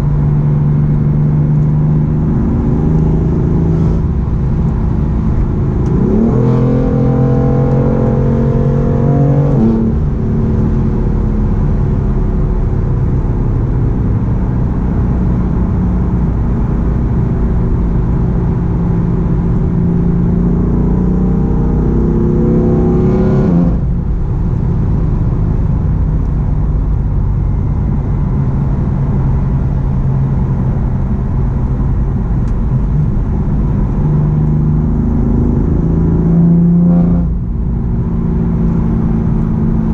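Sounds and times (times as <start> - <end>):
car engine revving with gear shifts: 0.0 - 39.9.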